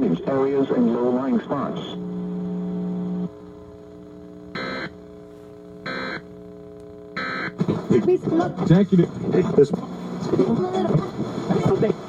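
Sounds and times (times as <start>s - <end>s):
low steady buzz: 0.0s - 12.0s.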